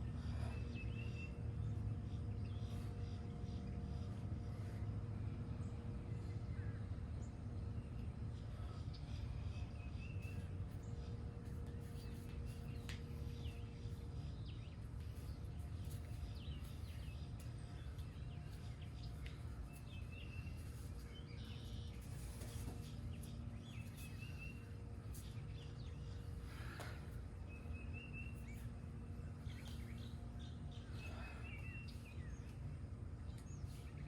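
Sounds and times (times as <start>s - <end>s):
faint steady hum: 0.0s - 34.0s
low outdoor rumble: 0.0s - 34.0s
songbirds chirping: 0.0s - 34.0s.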